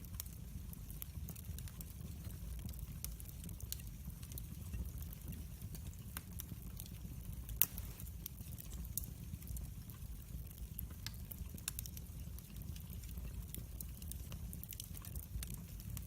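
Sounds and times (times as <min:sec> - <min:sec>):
log fire crackling and popping: 0:00.0 - 0:16.0
low fire rumble: 0:00.0 - 0:16.0.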